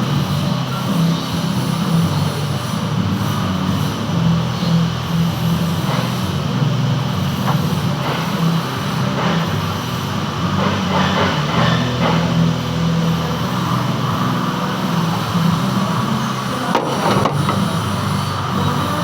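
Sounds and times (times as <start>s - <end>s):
metal lathe humming: 0.0s - 19.0s.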